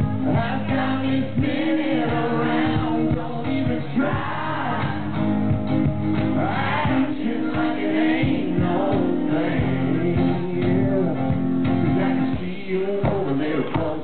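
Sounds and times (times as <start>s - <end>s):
strummed acoustic guitars: 0.0s - 14.0s
man singing country song: 0.1s - 5.3s, 6.3s - 14.0s.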